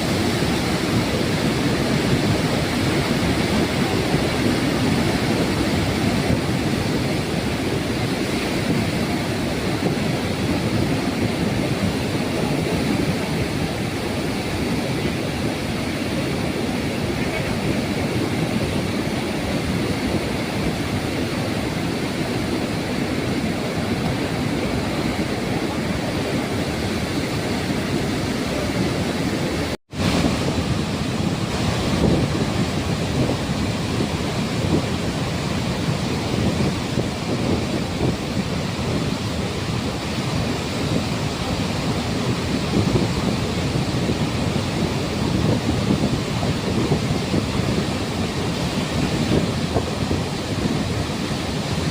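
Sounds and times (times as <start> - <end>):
loud rush of water: 0.0 - 51.9.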